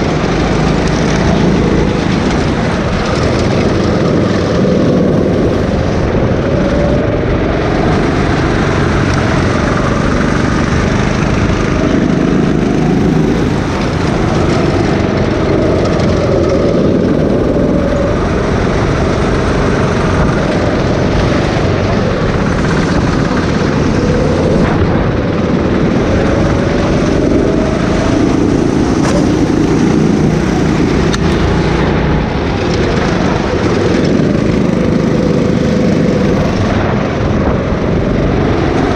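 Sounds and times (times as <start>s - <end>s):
go-kart engine revving: 0.0s - 38.9s
heavy low rumble: 0.0s - 38.9s.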